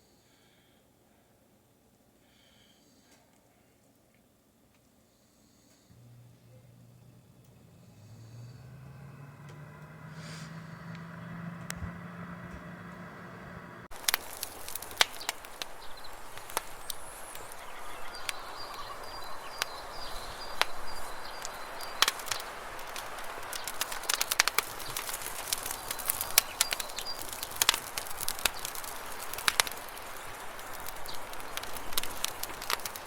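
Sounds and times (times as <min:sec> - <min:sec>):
background hiss: 0:00.0 - 0:33.0.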